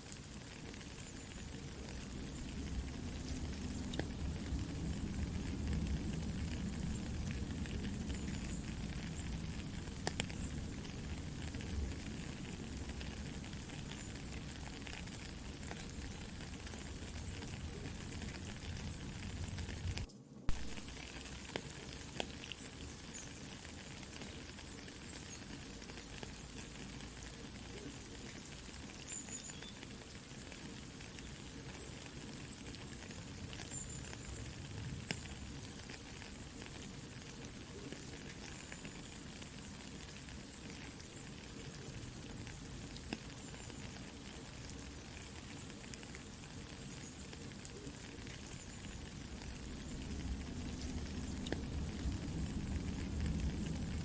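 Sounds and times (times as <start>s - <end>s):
campfire crackling and popping: 0.0s - 54.0s
soft rain falling: 0.0s - 54.0s.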